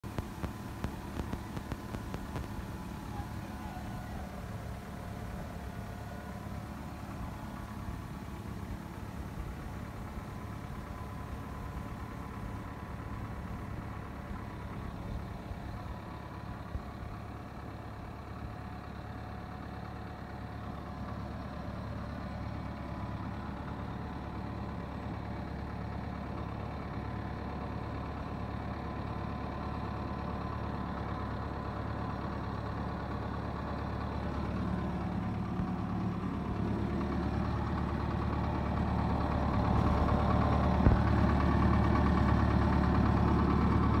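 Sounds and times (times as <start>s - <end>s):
bulldozer diesel engine running: 0.0s - 44.0s.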